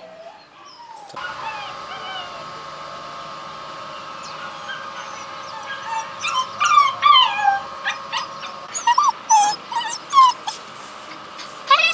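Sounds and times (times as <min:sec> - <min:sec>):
dogs whining: 0:00.0 - 0:02.6, 0:04.2 - 0:10.8, 0:11.4 - 0:11.9.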